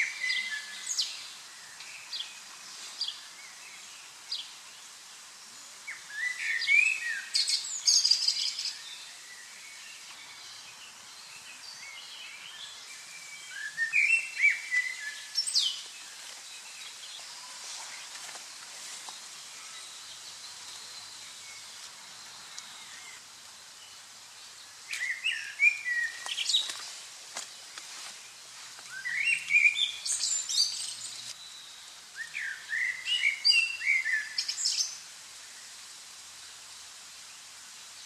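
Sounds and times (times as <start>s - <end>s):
faint background hiss: 0.0s - 38.0s
songbirds chirping: 0.0s - 38.0s.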